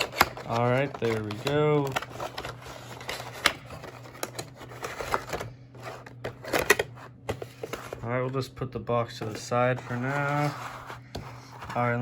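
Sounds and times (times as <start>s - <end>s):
cardboard and plastic packaging handled: 0.0s - 12.0s.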